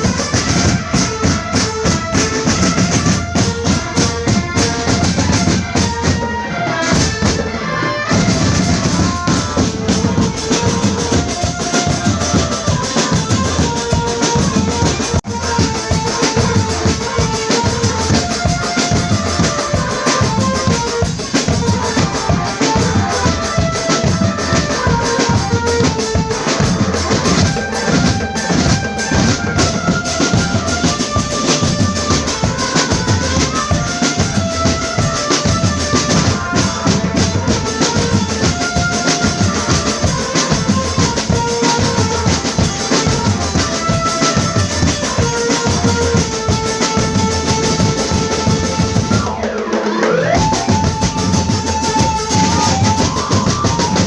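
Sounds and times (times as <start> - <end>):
marching drum band playing: 0.0 - 54.0.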